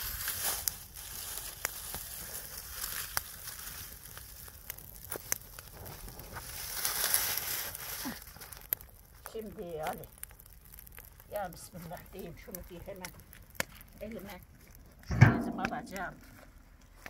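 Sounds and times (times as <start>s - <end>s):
fire crackling and hissing: 0.0s - 17.0s.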